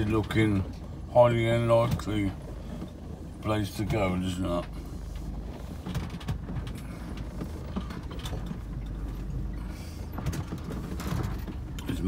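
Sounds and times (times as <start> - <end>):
engine and road rumble: 0.0 - 12.0
van body rattling and knocking: 0.0 - 12.0.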